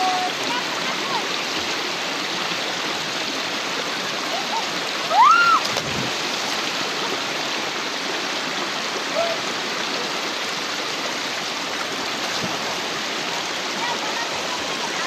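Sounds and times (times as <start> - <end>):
flowing river water: 0.0 - 15.0.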